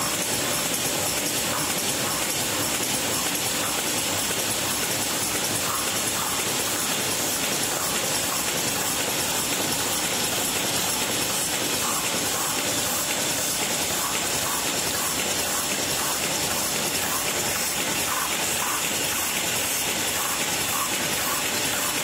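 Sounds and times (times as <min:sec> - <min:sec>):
machine mechanical clatter: 0:00.0 - 0:22.0.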